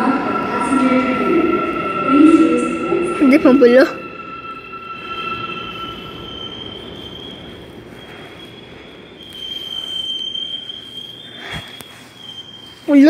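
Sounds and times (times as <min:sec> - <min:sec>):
high-pitched squeal: 0:00.0 - 0:13.0
subway train rumble: 0:00.0 - 0:13.0.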